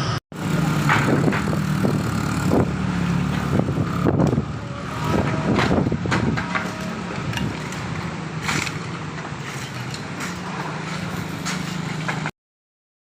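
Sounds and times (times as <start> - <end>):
road and wind noise: 0.0 - 12.3
vehicle engine humming: 0.0 - 12.3.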